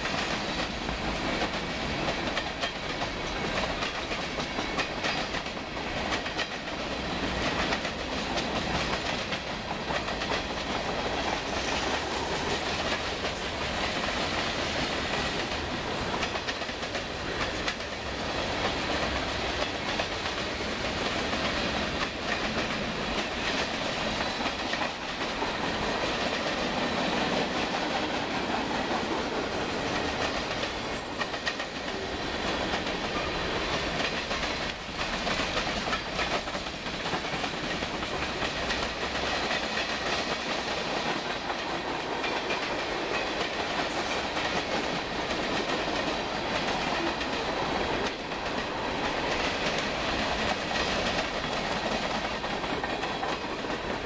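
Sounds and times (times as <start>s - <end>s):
freight train cars rolling past: 0.0s - 54.0s
wheels clicking over rail joints: 0.0s - 54.0s.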